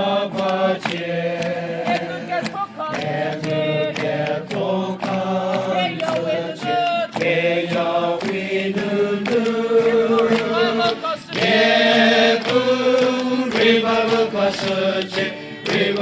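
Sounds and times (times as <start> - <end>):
group singing a religious song: 0.0 - 16.0
steady beat: 0.0 - 16.0.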